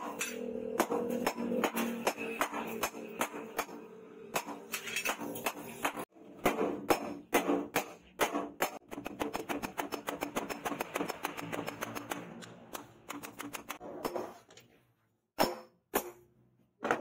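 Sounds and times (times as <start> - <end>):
hammer striking hot metal: 0.0 - 13.8.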